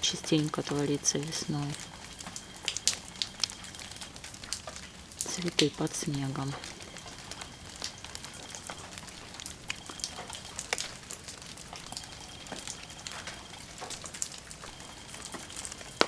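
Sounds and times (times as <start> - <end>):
soft steady hiss: 0.0 - 16.0
drops pattering on leaves: 0.4 - 16.0.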